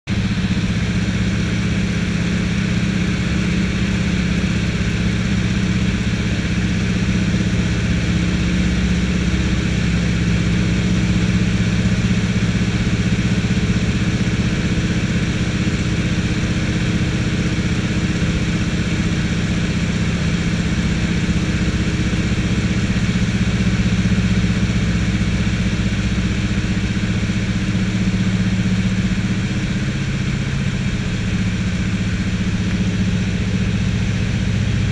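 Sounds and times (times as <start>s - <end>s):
radial aircraft engine running: 0.1s - 34.9s.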